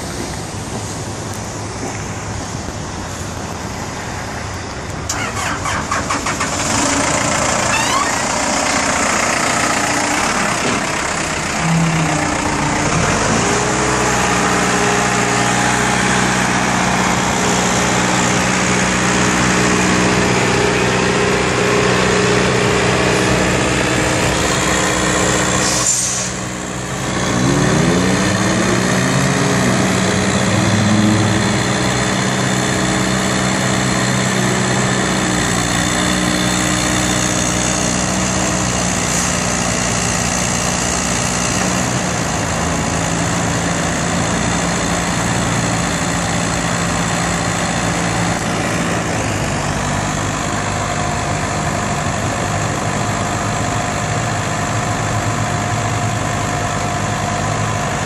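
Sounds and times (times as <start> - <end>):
diesel engine revving: 5.0 - 58.0.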